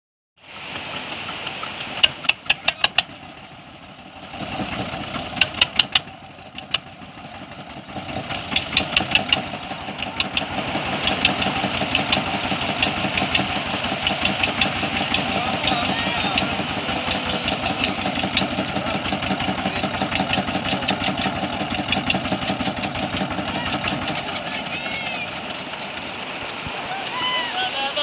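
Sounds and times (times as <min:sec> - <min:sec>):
small engine knocking: 0:00.7 - 0:27.4.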